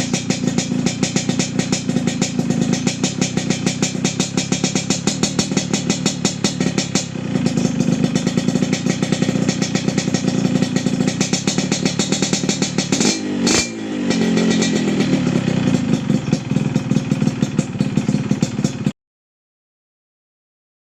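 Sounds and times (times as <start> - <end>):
two-stroke motorcycle engine idling: 0.0 - 19.0.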